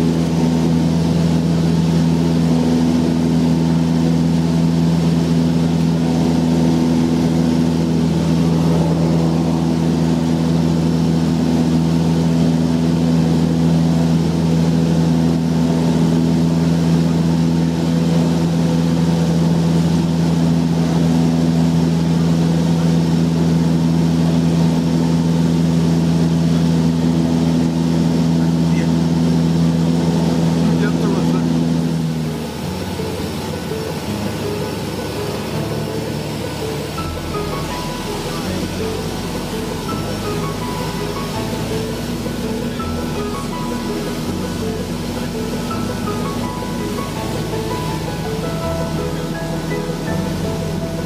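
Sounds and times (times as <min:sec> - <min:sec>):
airplane engine and propeller droning: 0:00.0 - 0:51.0.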